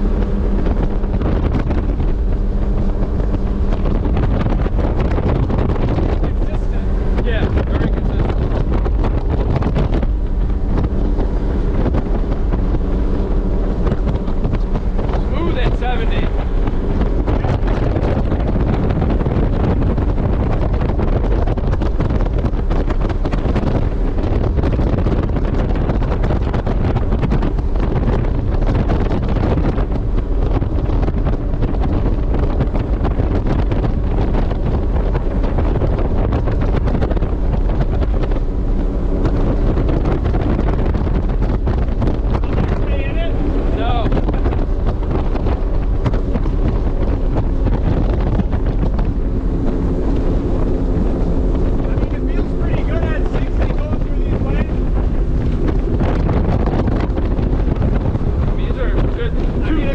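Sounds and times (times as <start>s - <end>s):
powerboat engines running: 0.0s - 59.9s
wind noise on microphone: 0.0s - 59.9s.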